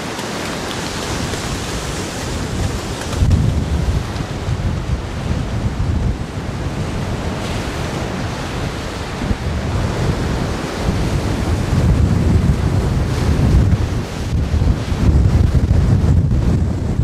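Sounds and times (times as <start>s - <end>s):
waves rushing onto shore: 0.0s - 17.0s
wind buffeting microphone: 0.0s - 17.0s.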